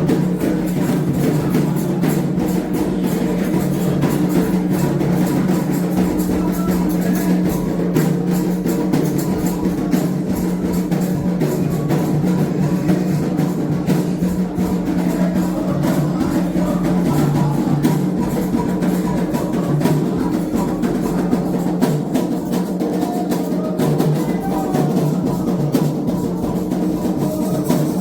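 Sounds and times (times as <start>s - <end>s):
hand drums playing: 0.0s - 28.0s.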